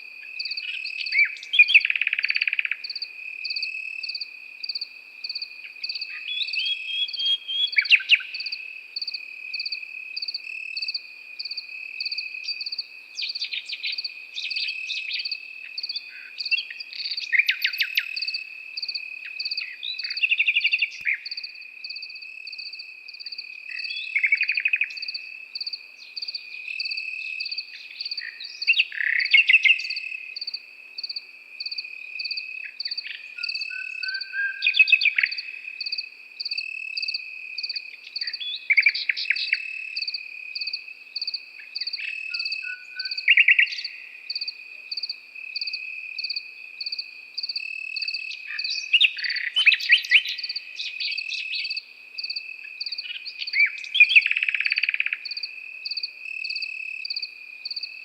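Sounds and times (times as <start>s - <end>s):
crickets trilling: 0.0s - 58.0s
insect chirping in pulses: 0.0s - 58.0s
nightingale singing: 0.0s - 58.0s.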